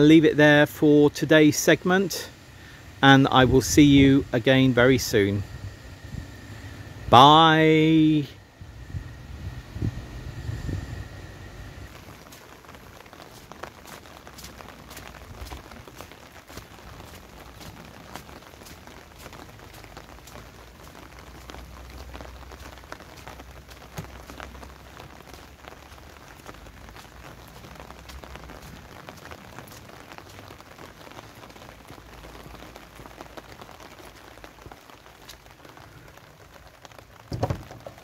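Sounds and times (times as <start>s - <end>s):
raindrops ticking close by: 0.0s - 38.0s
steady rain falling: 0.0s - 38.0s.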